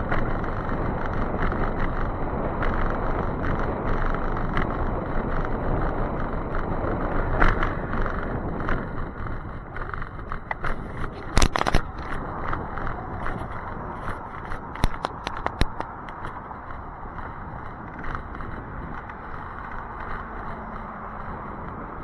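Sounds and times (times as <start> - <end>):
wind and road rushing noise: 0.0 - 22.0
light ticks: 0.1 - 21.9
loud clatter: 0.1 - 22.0.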